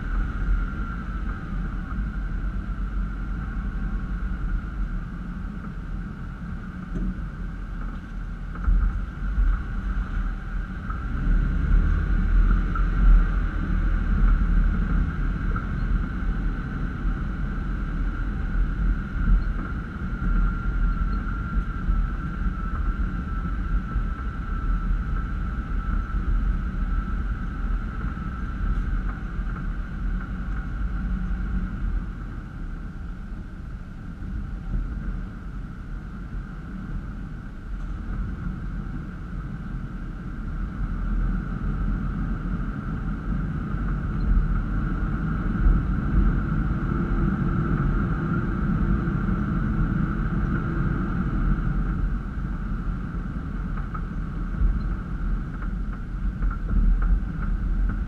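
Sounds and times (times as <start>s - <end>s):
engine low rumble: 0.0s - 58.0s
thin steady whine: 0.0s - 58.0s.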